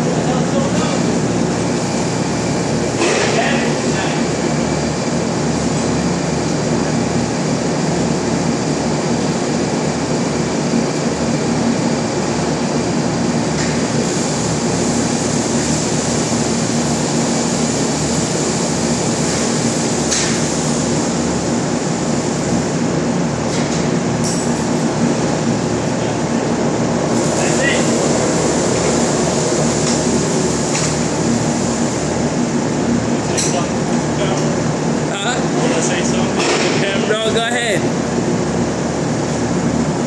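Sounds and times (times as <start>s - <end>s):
factory machinery din: 0.0s - 8.4s, 11.1s - 39.0s.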